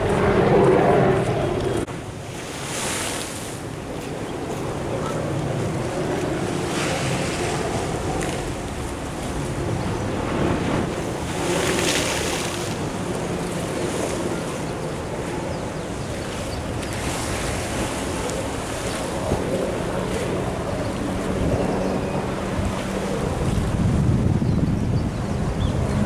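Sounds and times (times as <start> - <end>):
wind buffeting microphone: 0.0 - 2.3, 3.6 - 26.0
waves washing against sea wall: 1.2 - 26.0.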